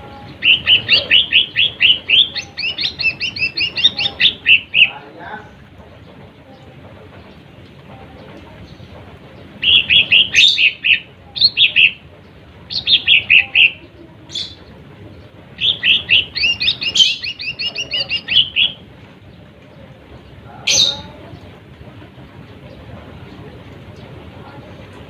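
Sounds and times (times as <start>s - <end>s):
bird singing rapid chirps: 0.0s - 24.9s.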